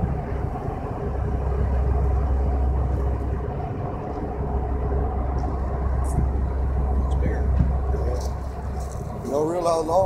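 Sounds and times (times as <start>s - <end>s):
faint constant hum: 0.0s - 10.0s
ship diesel engine rumble: 0.0s - 10.0s.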